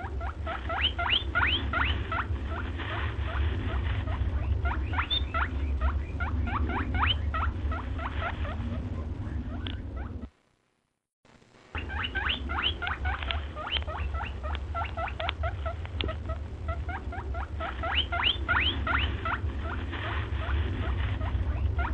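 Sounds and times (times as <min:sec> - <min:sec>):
animals squeaking: 0:00.0 - 0:10.3, 0:11.8 - 0:21.9
low rumble: 0:00.0 - 0:10.6, 0:11.4 - 0:21.9.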